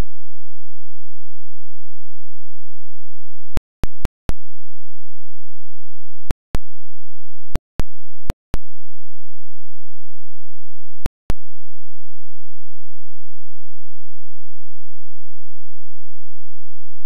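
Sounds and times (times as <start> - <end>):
faint steady tone: 0.0 - 3.6, 4.3 - 17.0.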